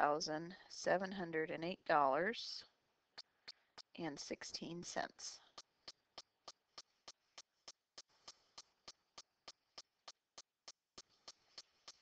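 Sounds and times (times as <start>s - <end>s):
faint steady ticking: 0.0s - 12.0s.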